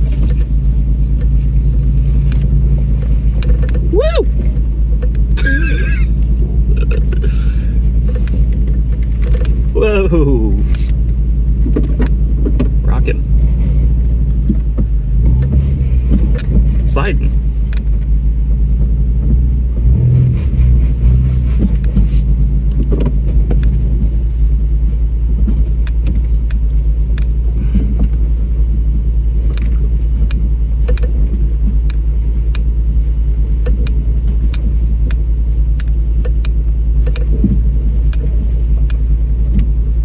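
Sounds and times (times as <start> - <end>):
vehicle body rattling and knocking: 0.0 - 9.8, 10.6 - 40.0
off-road vehicle engine running: 0.0 - 40.0.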